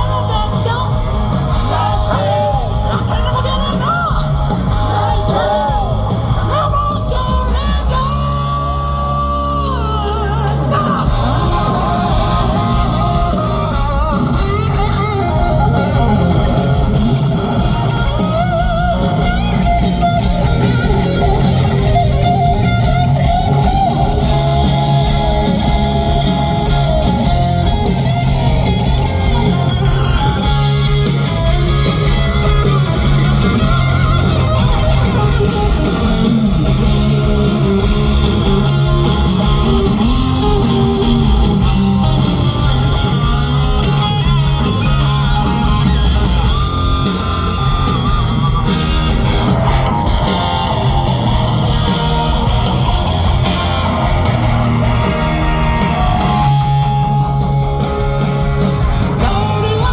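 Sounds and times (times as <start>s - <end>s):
hard rock band playing: 0.0s - 59.9s
lead electric guitar high notes: 10.0s - 59.9s.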